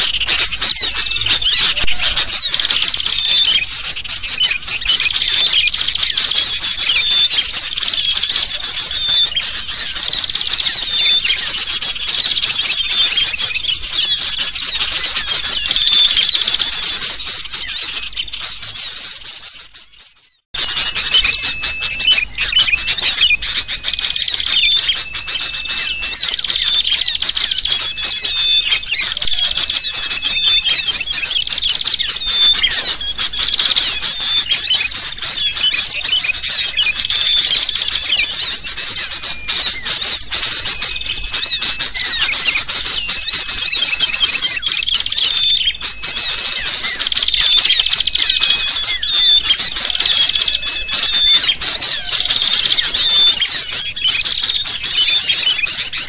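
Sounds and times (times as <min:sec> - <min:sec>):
bulbuls calling: 0:00.0 - 0:56.0
short bird whistles: 0:00.0 - 0:56.0
small birds chattering: 0:00.0 - 0:56.0.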